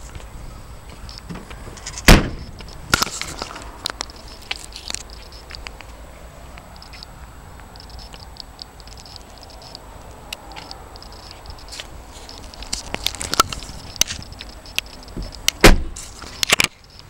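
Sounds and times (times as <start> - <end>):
clicks and crackles: 1.0 - 6.0, 6.6 - 17.0.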